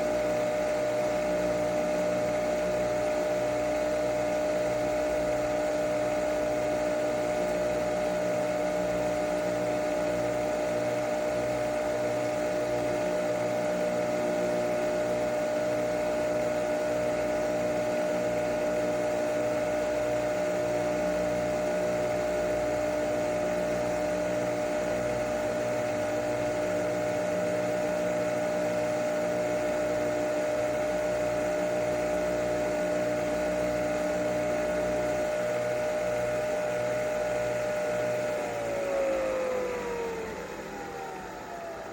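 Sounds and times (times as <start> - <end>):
coffee machine motor whirring: 0.0 - 41.9.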